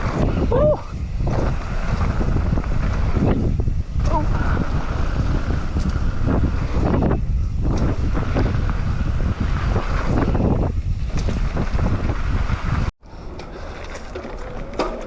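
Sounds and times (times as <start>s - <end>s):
bike rattles and clicks: 0.0s - 15.0s
tyres rumbling on dirt: 0.0s - 15.0s
wind buffeting microphone: 0.0s - 15.0s.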